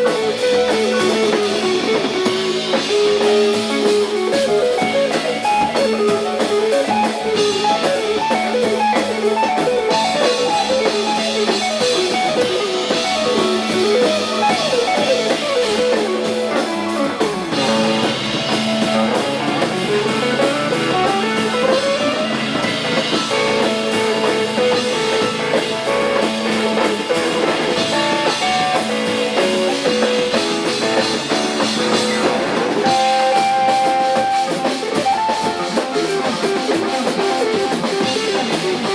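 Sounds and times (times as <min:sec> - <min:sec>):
drum kit: 0:00.0 - 0:38.9
electric guitar: 0:00.0 - 0:38.9
keyboard: 0:00.0 - 0:38.9.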